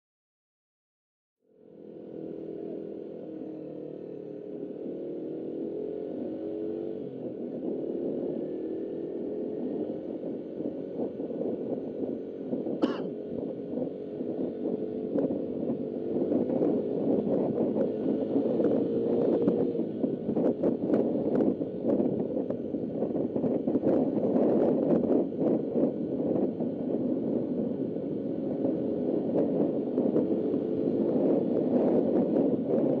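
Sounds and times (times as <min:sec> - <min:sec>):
motorcycle engine running: 0:01.6 - 0:33.0
wind noise on microphone: 0:01.8 - 0:33.0.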